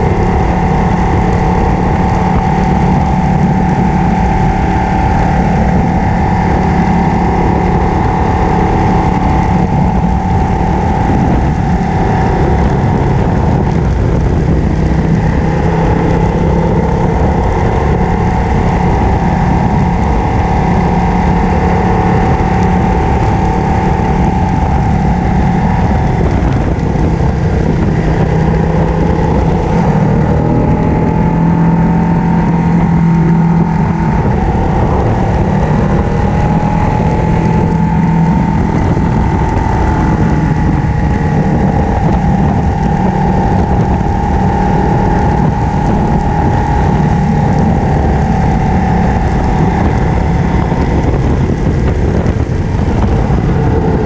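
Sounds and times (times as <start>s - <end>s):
motorcycle engine cruising: 0.0s - 54.0s
wind rushing: 0.0s - 54.0s.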